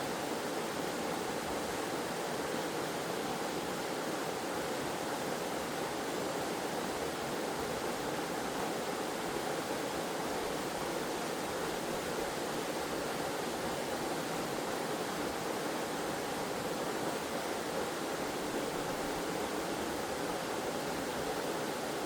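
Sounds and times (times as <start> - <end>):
waterfall rushing water: 0.0 - 22.0.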